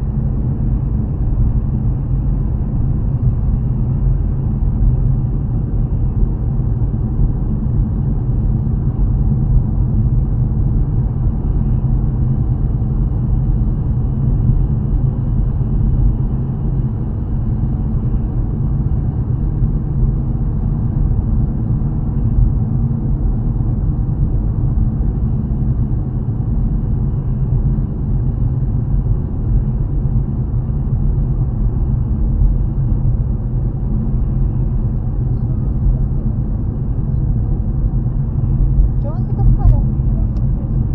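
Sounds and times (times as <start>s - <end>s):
engine and road noise rumble: 0.0s - 40.9s.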